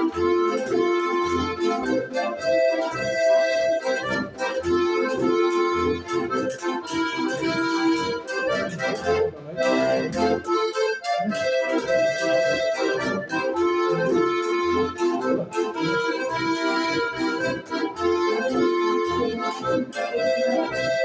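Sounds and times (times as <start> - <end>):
accordions playing chords: 0.0 - 21.0
clicking percussion beat: 0.0 - 21.0.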